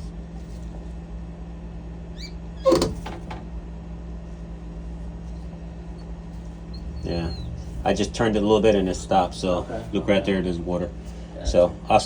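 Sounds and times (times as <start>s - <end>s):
refrigerator electrical hum: 0.0s - 12.0s.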